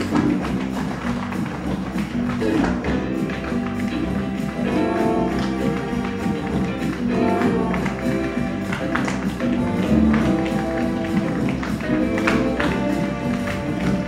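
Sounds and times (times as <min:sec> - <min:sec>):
live instrumental music: 0:00.0 - 0:14.0
tap shoes on wooden stage: 0:00.0 - 0:14.0.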